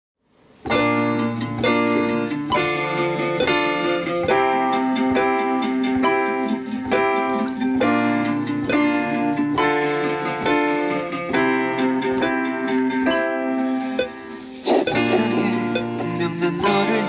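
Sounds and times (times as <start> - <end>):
plucked string chords ringing: 0.6 - 17.0.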